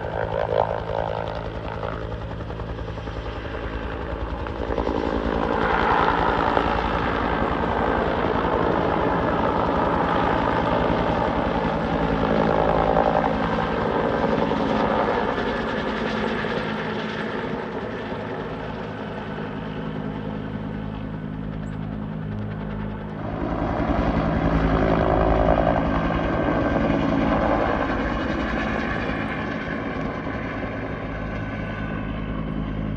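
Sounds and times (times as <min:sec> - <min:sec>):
helicopter rotor and engine: 0:00.0 - 0:32.9.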